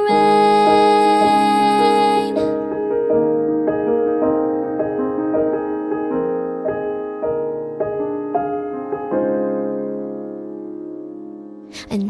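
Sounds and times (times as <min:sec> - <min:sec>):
solo piano broken chords: 0:00.0 - 0:11.8.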